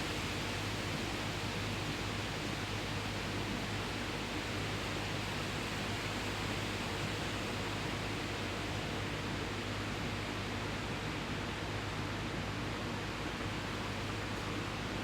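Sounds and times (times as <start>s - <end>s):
steady hissing noise: 0.0s - 15.0s.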